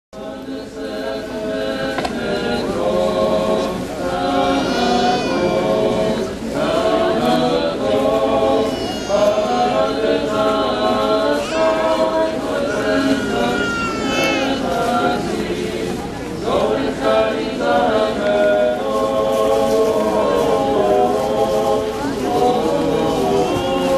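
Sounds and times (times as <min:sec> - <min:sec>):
crowd singing a hymn: 0:00.2 - 0:23.9.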